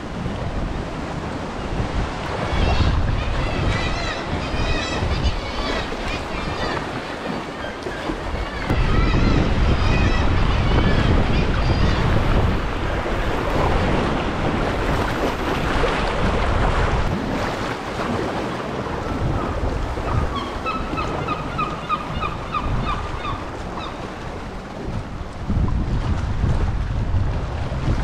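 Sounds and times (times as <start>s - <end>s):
sea water sloshing: 0.0s - 8.8s, 12.0s - 28.0s
wind buffeting microphone: 0.0s - 28.0s.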